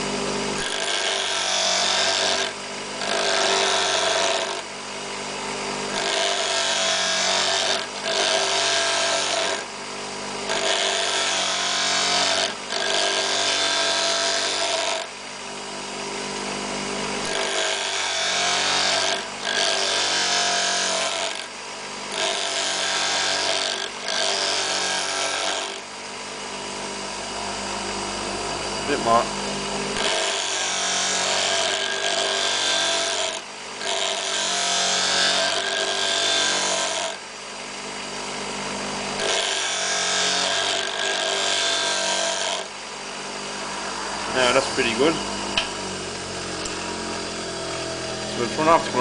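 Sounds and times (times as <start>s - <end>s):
grinding wheel grinding drill bit: 0.0s - 9.7s, 10.3s - 25.9s, 27.8s - 37.2s, 38.7s - 49.0s
grinder motor hum: 0.0s - 49.0s.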